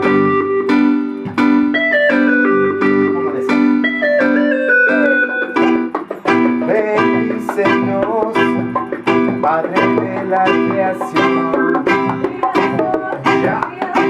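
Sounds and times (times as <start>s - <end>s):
keyboard chords: 0.0s - 14.0s
reggae band playing: 0.0s - 14.0s.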